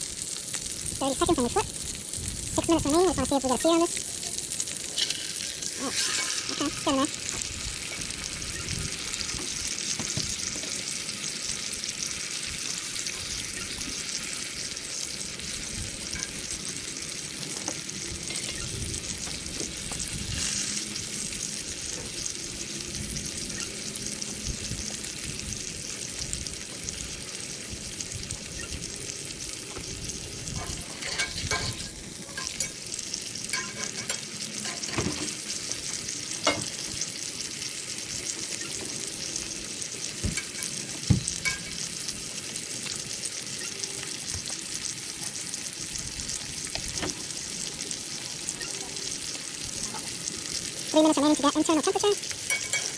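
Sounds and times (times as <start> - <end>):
steak sizzling over fire: 0.0 - 52.9.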